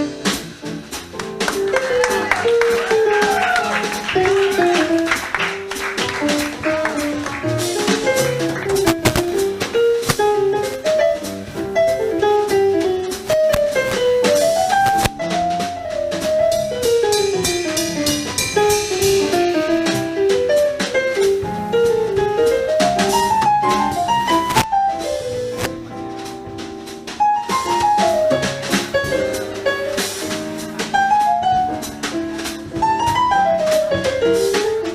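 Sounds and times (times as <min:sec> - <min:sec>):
bass: 0:00.0 - 0:34.9
drum kit with cymbals: 0:00.0 - 0:34.9
piano chords: 0:00.0 - 0:34.9.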